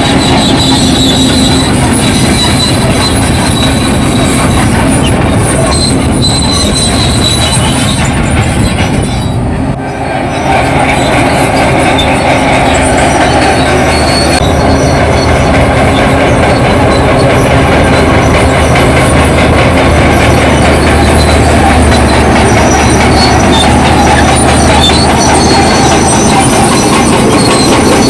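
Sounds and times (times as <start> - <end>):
bulldozer diesel engine running: 0.0 - 28.0
steel tracks squealing and clanking: 0.0 - 28.0.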